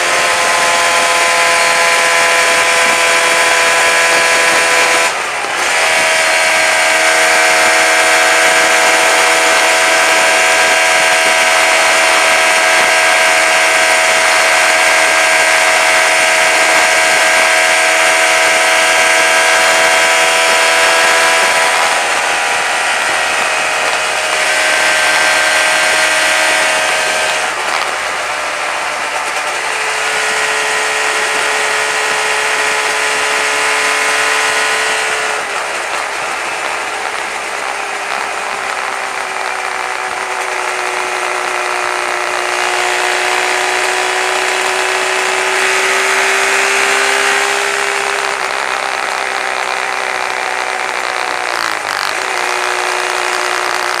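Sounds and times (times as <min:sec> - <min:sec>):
two-stroke motorcycle engine: 0:00.0 - 0:54.0.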